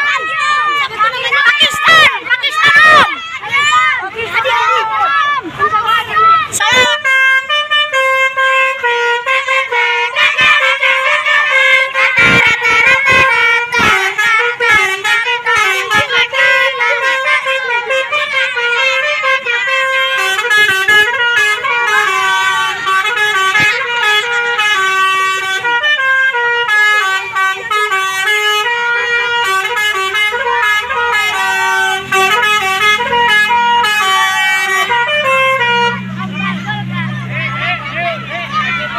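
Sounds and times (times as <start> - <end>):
low engine rumble: 0.0 - 38.9
musical bus horn melody: 5.8 - 38.9.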